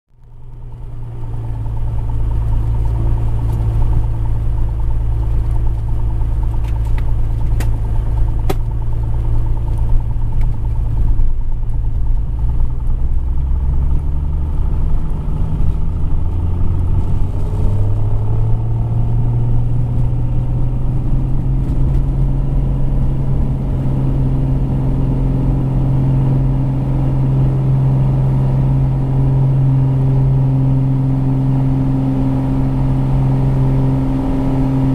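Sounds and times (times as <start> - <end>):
propeller plane engine at takeoff: 0.1 - 34.9.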